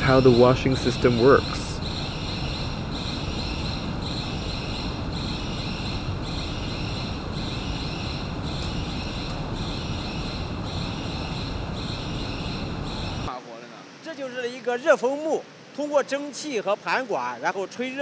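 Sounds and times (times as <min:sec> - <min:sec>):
high hiss: 0:00.0 - 0:18.0.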